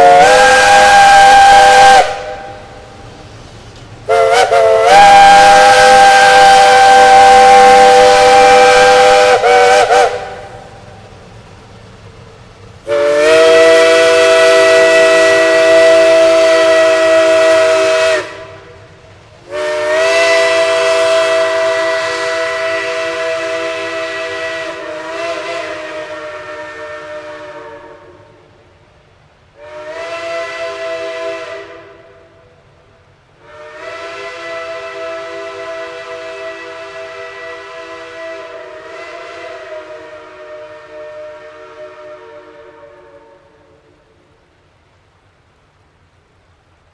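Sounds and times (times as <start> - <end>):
steam locomotive chime whistle: 0.0 - 3.0, 4.1 - 11.1, 12.8 - 28.7, 29.6 - 44.3.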